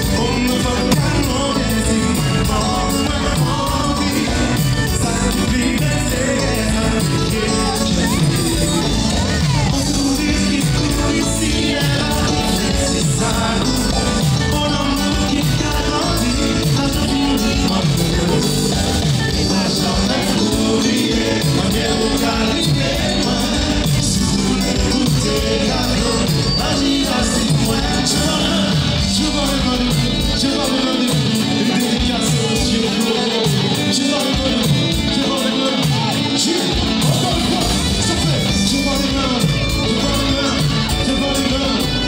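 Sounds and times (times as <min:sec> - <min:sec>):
lead singer singing: 0:00.0 - 0:42.0
live band playing: 0:00.0 - 0:42.0.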